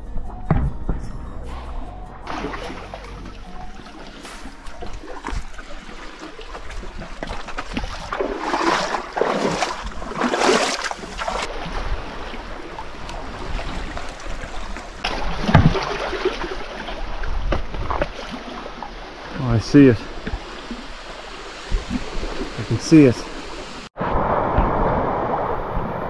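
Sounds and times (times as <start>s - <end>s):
water splashing as person wades: 2.3s - 23.9s.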